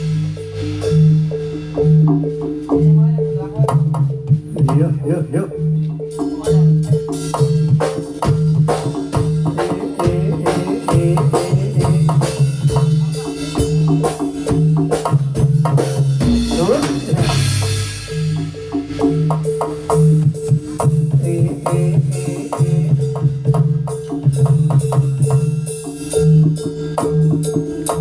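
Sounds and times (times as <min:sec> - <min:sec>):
drum and gamelan music: 0:00.0 - 0:28.0.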